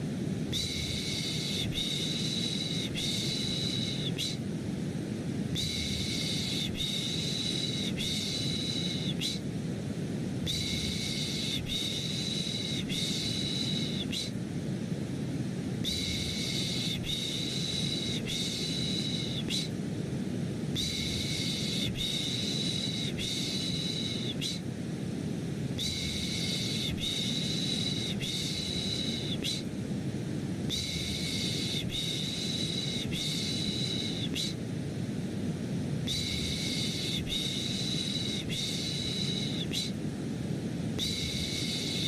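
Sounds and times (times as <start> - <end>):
deep white noise hiss: 0.0 - 42.0.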